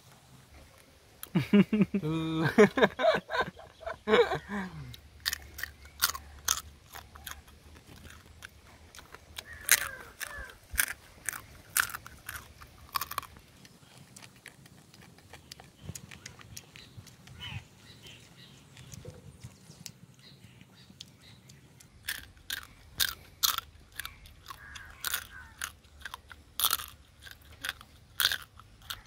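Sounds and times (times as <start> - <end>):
crab shells crunching while chewed: 4.9 - 29.0.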